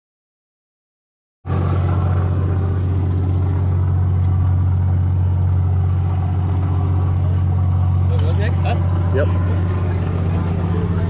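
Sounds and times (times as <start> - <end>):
boat diesel engines humming: 1.5 - 11.0.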